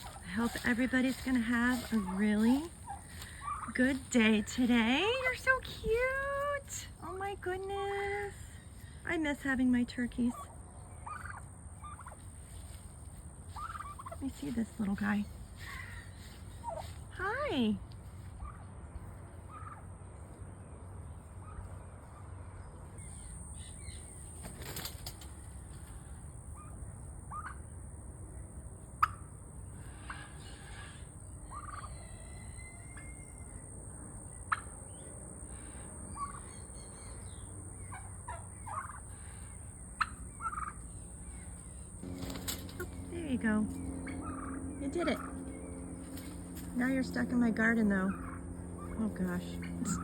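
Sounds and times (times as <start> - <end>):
turkeys giving soft calls: 0.0 - 7.2, 7.9 - 20.3, 21.0 - 27.7, 28.8 - 50.0.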